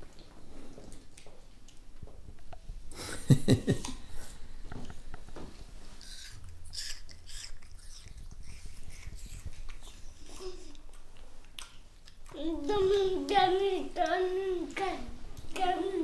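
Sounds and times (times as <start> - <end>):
child chewing apple crunching: 0.0 - 2.6, 3.8 - 15.9.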